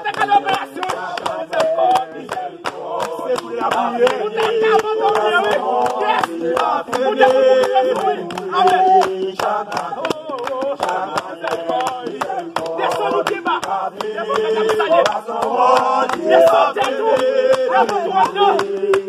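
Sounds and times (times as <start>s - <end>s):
group singing a hymn: 0.0s - 19.0s
rhythmic handclaps: 0.0s - 19.0s.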